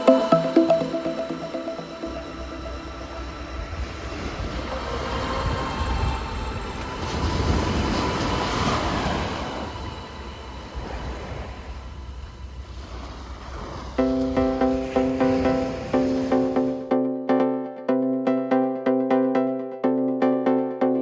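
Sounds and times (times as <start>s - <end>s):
train passing: 0.0s - 16.8s.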